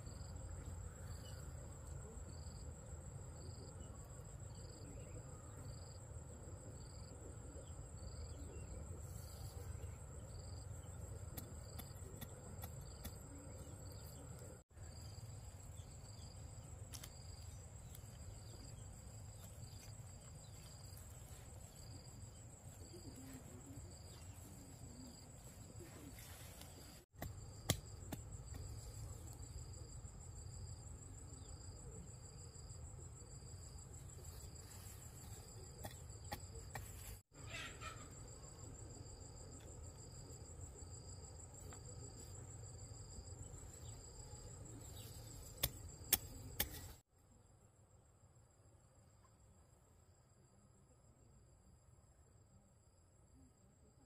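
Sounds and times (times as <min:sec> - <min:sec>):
crickets trilling: 0:00.0 - 0:47.5
insect chirping: 0:00.0 - 0:54.0.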